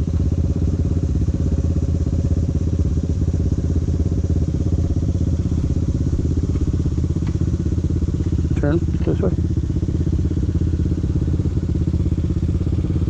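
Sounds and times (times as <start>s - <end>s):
quad engine running at low speed: 0.0s - 13.0s.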